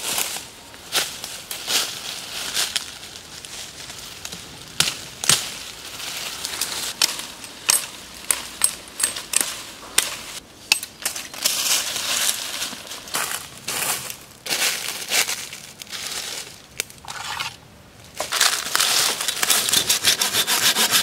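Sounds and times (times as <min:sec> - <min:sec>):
leaves and branches rustling: 0:00.0 - 0:21.0.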